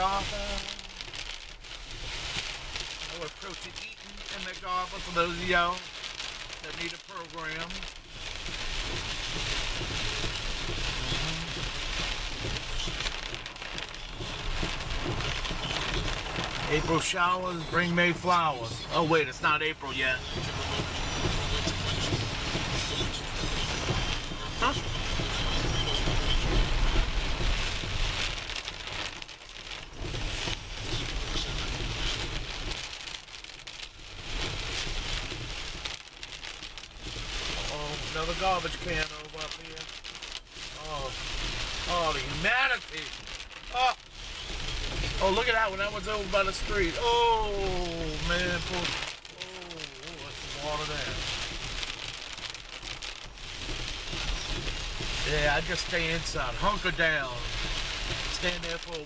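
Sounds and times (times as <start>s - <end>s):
car driving on wet road: 0.0s - 59.0s
heavy rain on car roof: 0.0s - 59.0s.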